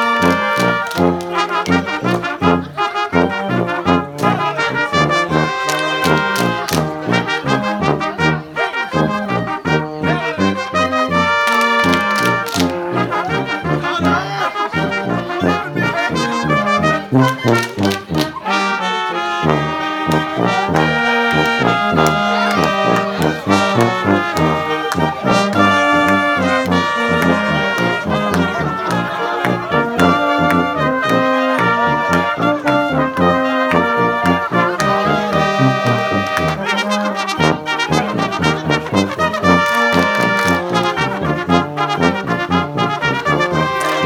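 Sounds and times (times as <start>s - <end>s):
brass band polka: 0.0s - 44.0s.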